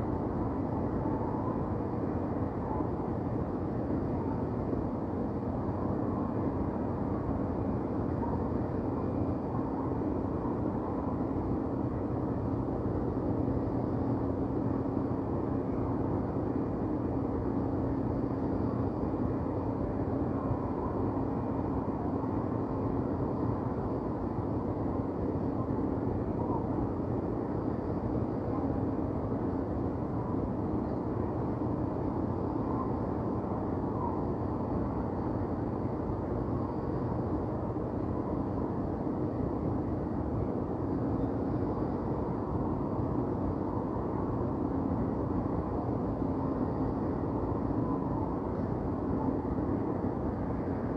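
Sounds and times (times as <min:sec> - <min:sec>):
constant hum: 0:00.0 - 0:50.9.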